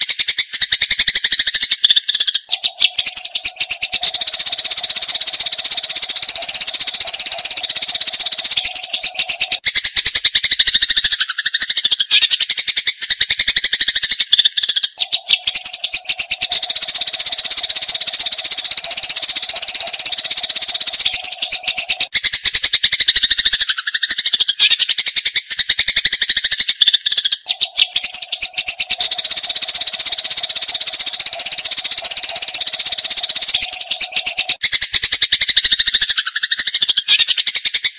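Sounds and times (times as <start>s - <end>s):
sparrows chattering: 0.0s - 37.9s.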